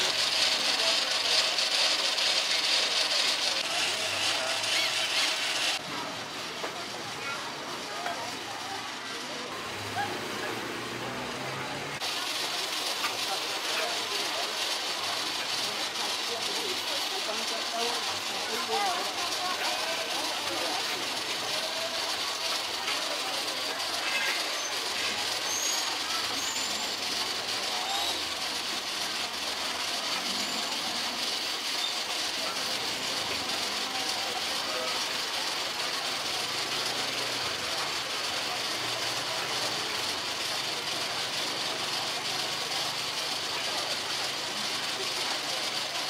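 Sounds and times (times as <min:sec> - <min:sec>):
faint voices: 0:00.0 - 0:46.0
street noise hiss: 0:00.0 - 0:46.0.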